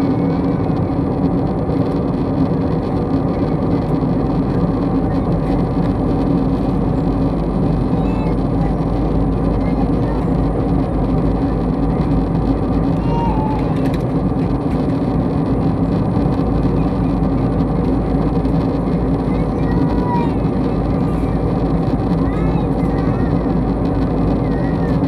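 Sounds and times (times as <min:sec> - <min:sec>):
airliner cabin engine drone: 0:00.0 - 0:25.0.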